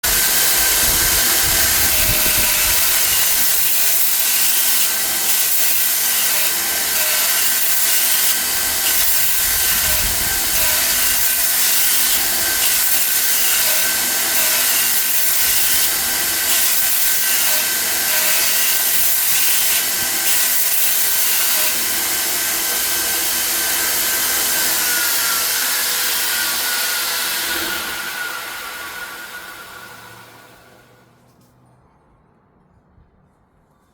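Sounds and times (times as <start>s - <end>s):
surface grinder running: 0.0s - 31.1s.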